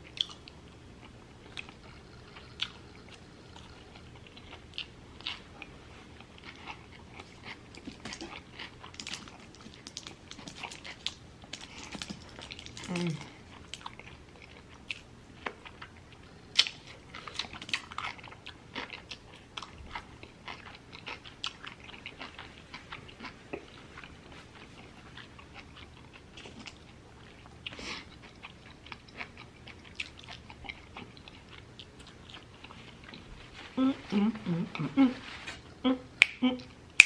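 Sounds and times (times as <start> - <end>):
person chewing food: 0.0 - 36.4.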